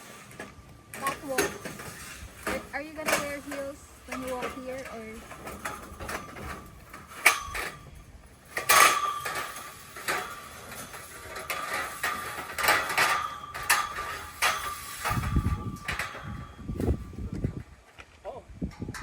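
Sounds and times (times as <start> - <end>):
steel scaffolding parts clanking: 0.0 - 18.0.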